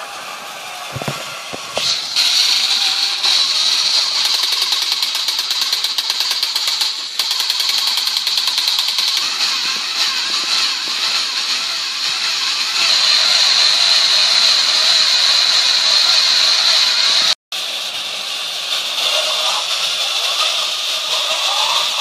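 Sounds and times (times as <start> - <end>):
toy motors whining: 0.0 - 22.0.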